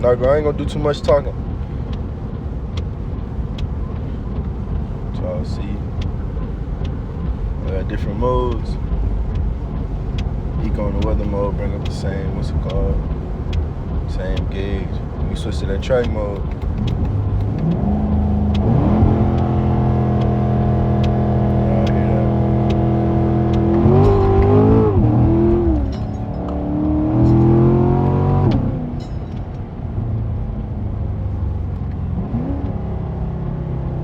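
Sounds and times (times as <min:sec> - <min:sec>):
sports car engine accelerating: 0:00.0 - 0:34.0.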